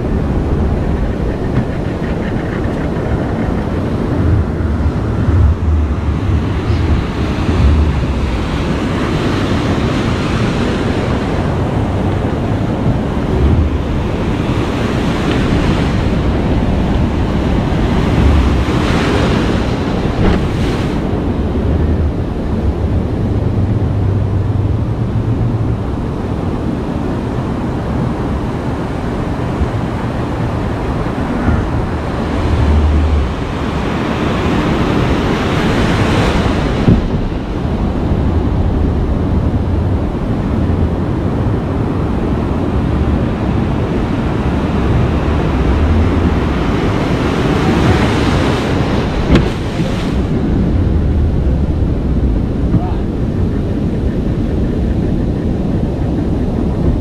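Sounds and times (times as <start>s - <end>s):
ocean surf breaking: 0.0s - 57.0s
wind rumbling on microphone: 0.0s - 57.0s.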